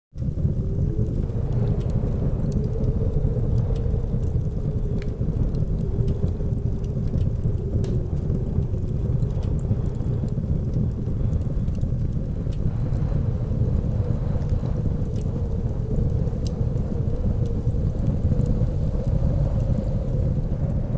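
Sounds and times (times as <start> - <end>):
blizzard wind howling: 0.2 - 20.9
wood fire crackling: 0.2 - 20.9.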